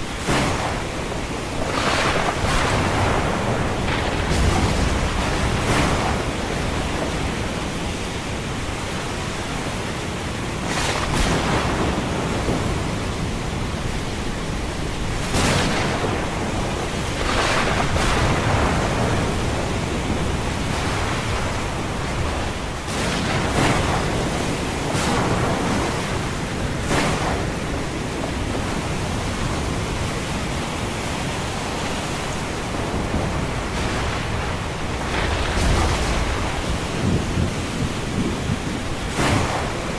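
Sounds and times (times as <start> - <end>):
ocean surf rushing: 0.0 - 39.9
waves crashing: 0.0 - 39.9.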